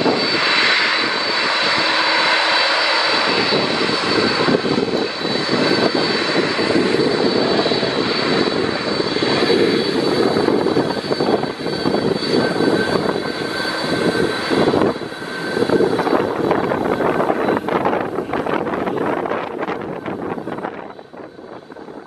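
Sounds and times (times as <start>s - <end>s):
jet engines roaring with whine: 0.0s - 22.0s.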